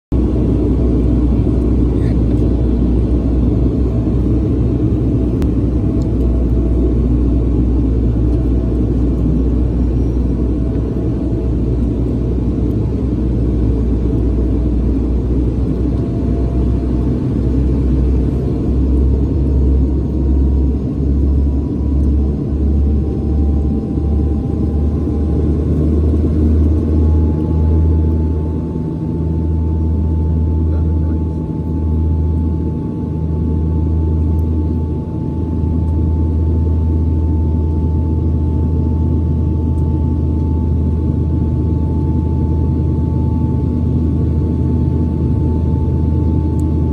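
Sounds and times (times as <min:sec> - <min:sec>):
propeller engine drone: 0:00.1 - 0:46.9.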